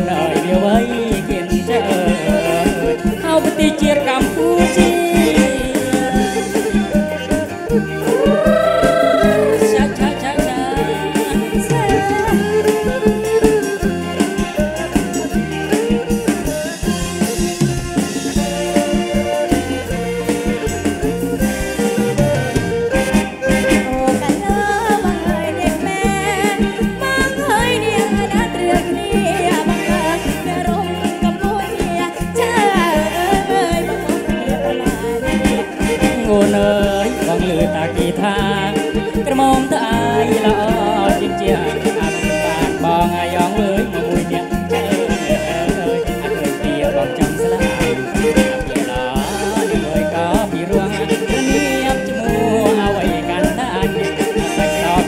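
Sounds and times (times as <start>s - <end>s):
woman singing: 0.0s - 14.2s, 23.7s - 55.0s
drum kit beat: 0.0s - 55.0s
live band playing upbeat song: 0.0s - 55.0s.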